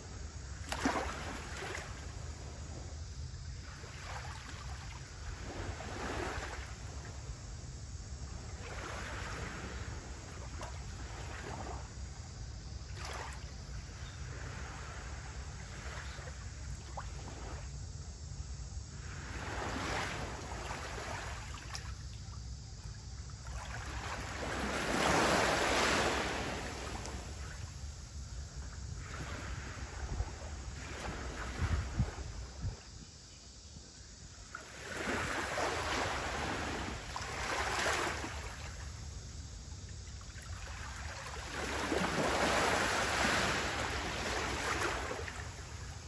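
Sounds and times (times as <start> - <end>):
small waves lapping at shore: 0.0 - 33.3, 33.9 - 46.0.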